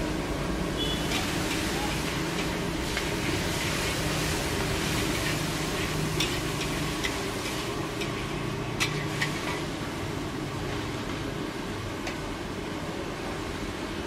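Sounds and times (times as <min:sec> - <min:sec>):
food sizzling in a wok: 0:00.0 - 0:14.0.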